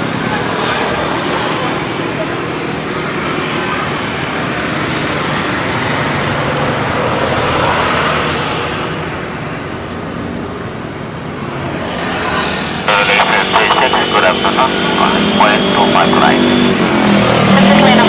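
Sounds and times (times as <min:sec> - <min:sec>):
road traffic rushing: 0:00.0 - 0:18.0
vehicle passing: 0:00.0 - 0:18.0.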